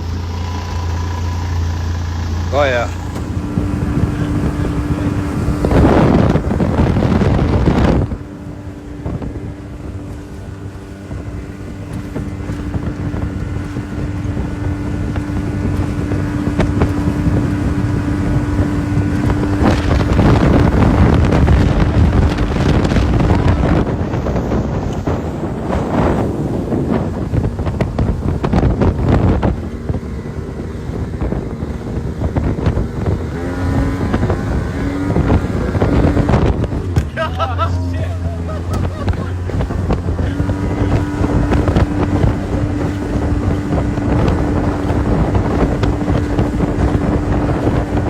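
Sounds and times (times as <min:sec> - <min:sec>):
outboard motor running: 0:00.0 - 0:48.0
wind buffeting microphone: 0:00.0 - 0:48.0.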